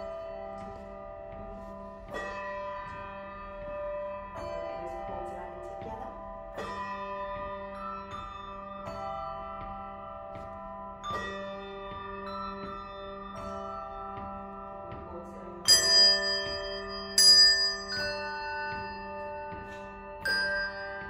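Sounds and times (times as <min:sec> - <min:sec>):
handbells ringing a melody: 0:00.0 - 0:21.0.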